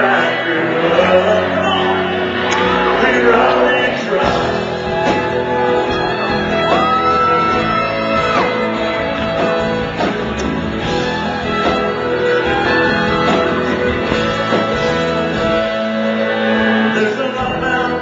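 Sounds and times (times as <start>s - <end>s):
country-rock band playing: 0.0s - 18.0s.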